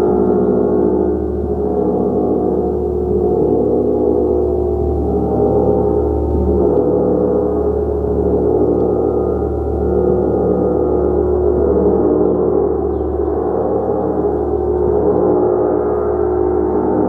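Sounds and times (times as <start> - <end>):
gong played continuously: 0.0 - 17.0.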